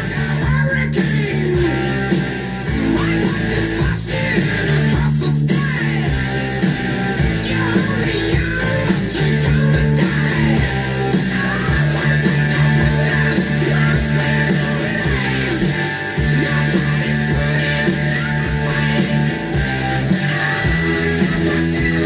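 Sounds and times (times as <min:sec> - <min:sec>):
rock music with guitar: 0:00.0 - 0:22.0.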